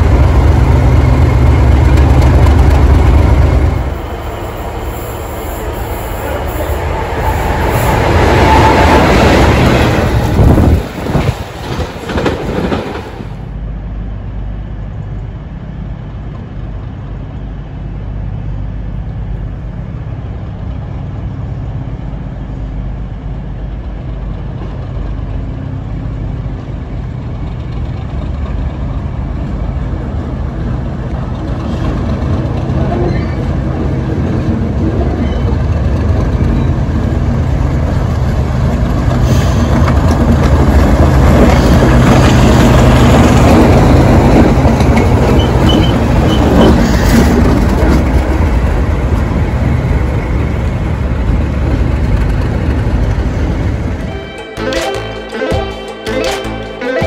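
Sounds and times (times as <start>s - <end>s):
diesel locomotive engine rumble: 0.0s - 57.0s
rush of train noise: 0.0s - 57.0s.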